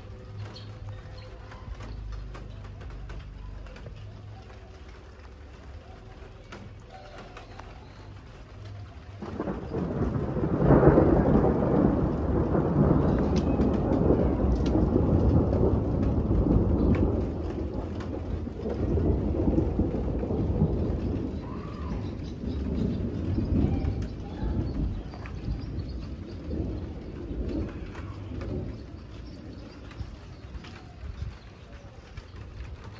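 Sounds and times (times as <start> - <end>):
thunder rumbling: 0.0 - 32.9.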